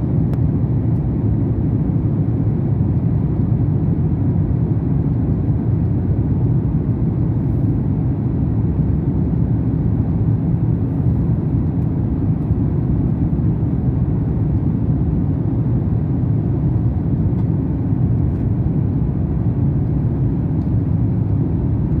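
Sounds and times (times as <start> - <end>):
jet engine and airflow rumble: 0.0 - 22.0.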